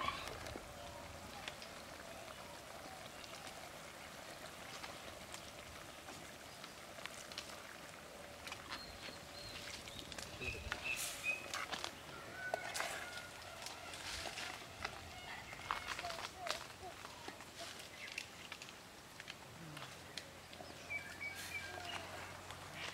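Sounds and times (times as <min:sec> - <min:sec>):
pot bubbling with crackles: 0:00.0 - 0:22.9.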